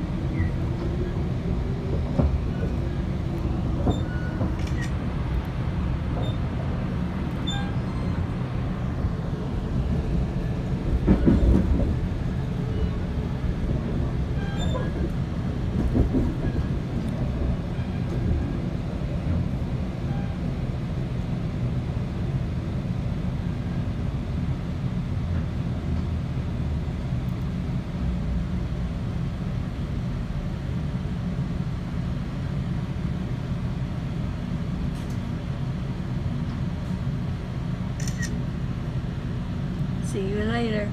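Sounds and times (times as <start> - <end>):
train rumbling along track: 0.0 - 40.9.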